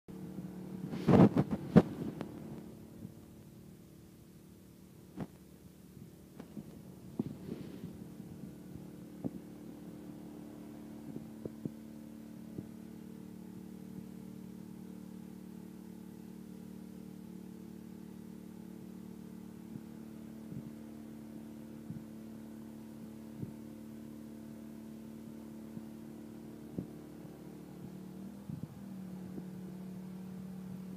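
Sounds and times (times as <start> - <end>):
muffled pressure washer hum: 0.1 - 30.9.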